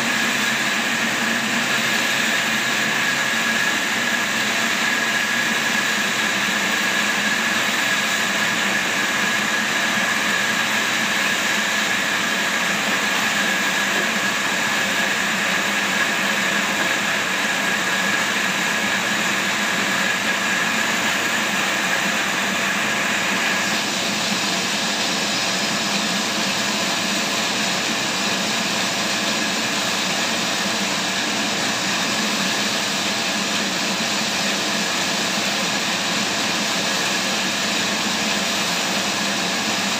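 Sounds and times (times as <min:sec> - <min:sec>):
sawmill machine whine: 0:00.0 - 0:39.9.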